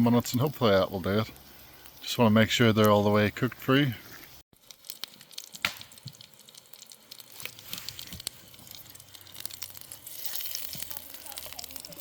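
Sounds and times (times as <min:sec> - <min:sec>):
sausages frying in a pan: 0:00.0 - 0:12.0.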